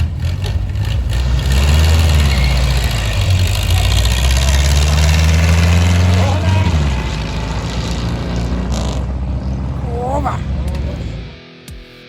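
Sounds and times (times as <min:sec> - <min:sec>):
car engine running: 0:00.0 - 0:11.4.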